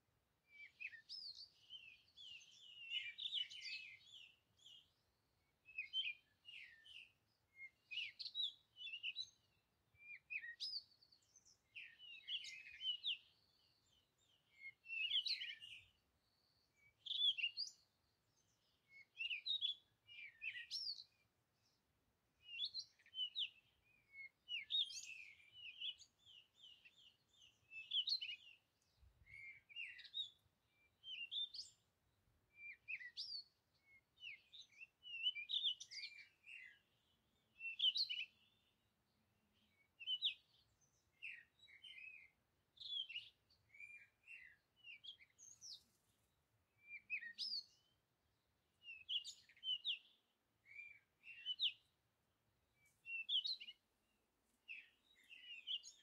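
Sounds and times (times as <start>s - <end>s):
birds chirping and twittering: 0.5s - 21.8s, 22.4s - 52.0s, 52.7s - 56.0s.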